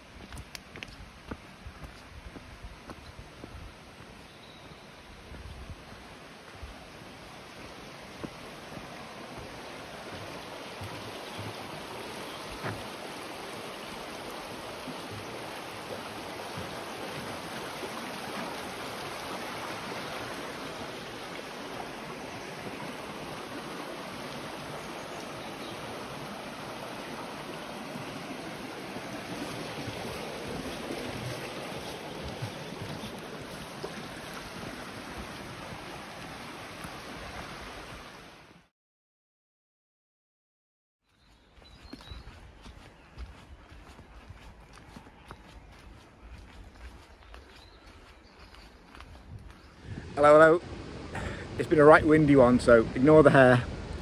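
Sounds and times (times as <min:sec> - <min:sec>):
stream rushing: 0:00.0 - 0:38.7, 0:42.2 - 0:54.0.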